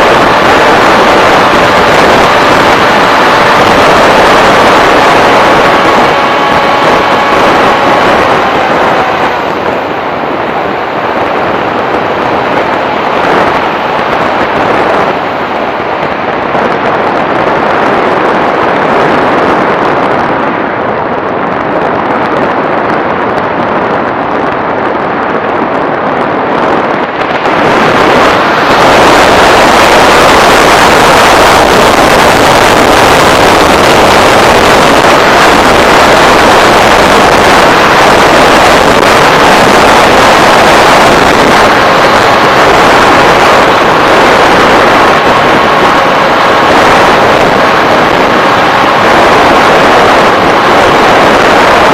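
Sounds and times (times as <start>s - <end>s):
propeller noise: 0.0s - 51.9s
wind rushing: 0.0s - 51.9s.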